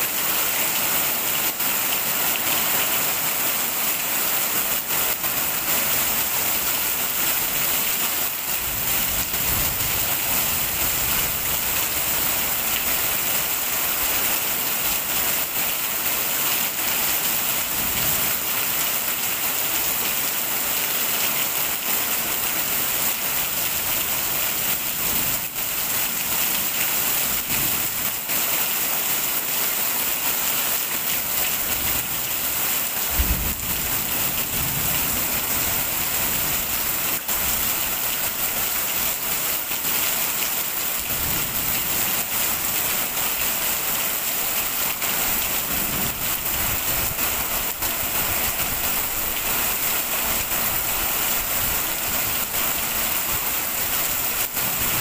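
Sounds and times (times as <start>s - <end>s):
rain on stone and paving: 0.0s - 55.0s.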